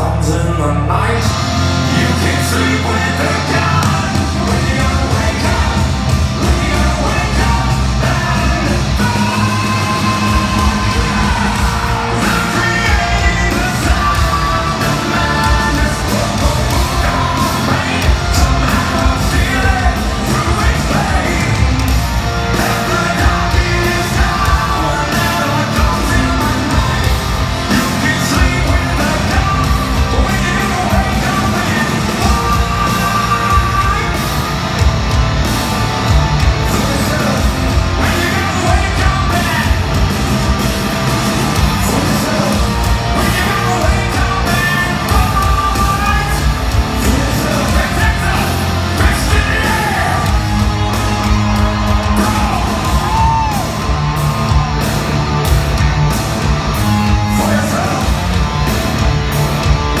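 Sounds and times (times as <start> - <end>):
bass guitar: 0.0 - 60.0
distorted electric guitars: 0.0 - 60.0
drums: 0.0 - 60.0
loud sung and yelled vocals: 0.0 - 60.0.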